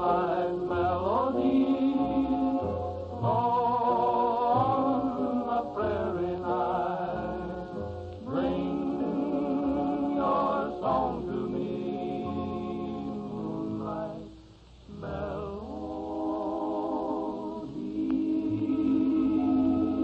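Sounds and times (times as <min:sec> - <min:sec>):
vocal group singing in harmony: 0:00.0 - 0:20.0.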